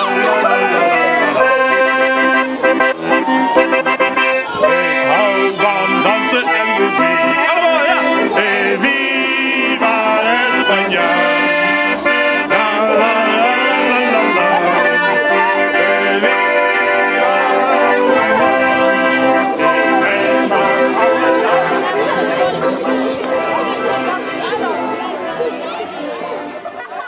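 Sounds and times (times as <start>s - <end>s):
accordion playing held chords: 0.0s - 27.0s.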